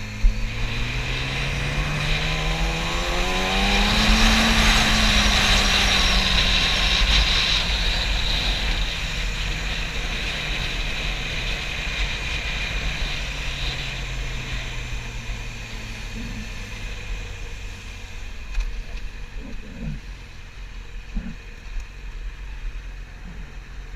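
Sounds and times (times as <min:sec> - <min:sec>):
motorcycle engine slowing: 0:00.0 - 0:23.9.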